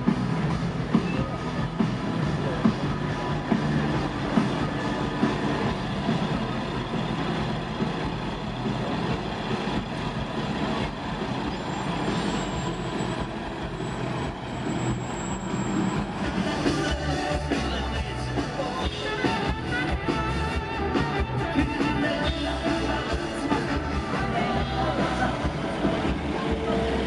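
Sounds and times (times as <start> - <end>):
bus engine humming with rattles: 0.0 - 27.0.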